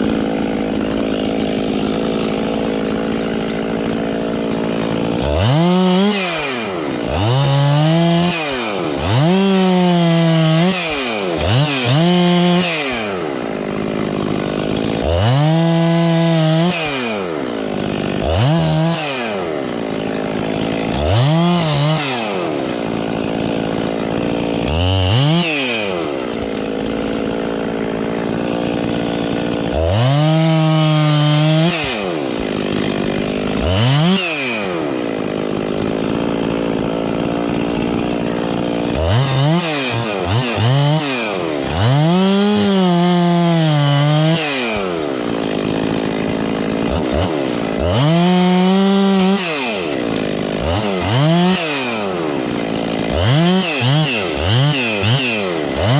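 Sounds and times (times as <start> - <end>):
chainsaw cutting at full throttle: 0.0 - 55.9
chainsaw idling: 0.0 - 55.9
chainsaw throttle blips: 0.0 - 55.9.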